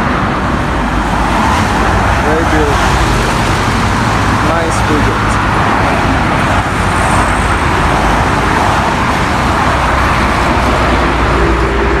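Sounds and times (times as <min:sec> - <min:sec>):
motorway traffic rumble: 0:00.0 - 0:12.0.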